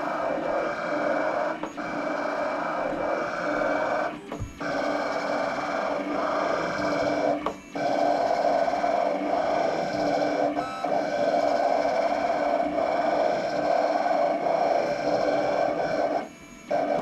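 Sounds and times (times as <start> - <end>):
vinyl cutter motors whirring: 0.0 - 17.0.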